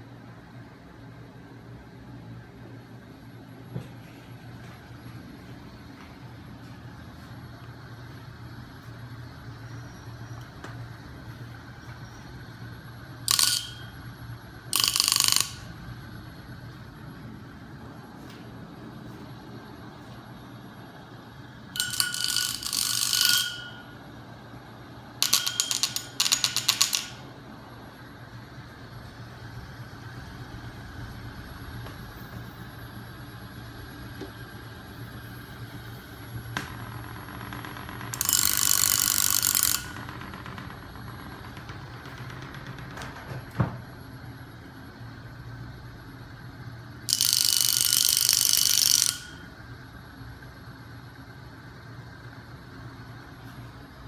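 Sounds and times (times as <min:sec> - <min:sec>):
flywheel machine humming: 0:02.4 - 0:54.0.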